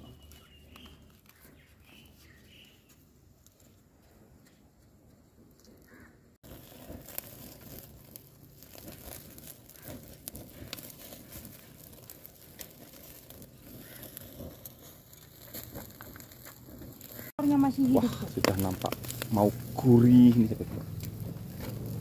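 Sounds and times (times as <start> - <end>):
eels sizzling over open fire: 0.0 - 2.8, 5.5 - 22.0.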